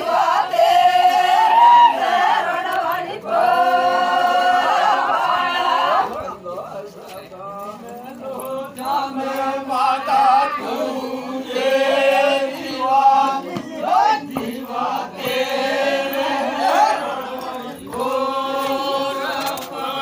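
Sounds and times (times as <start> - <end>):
group singing folk song: 0.0 - 20.0.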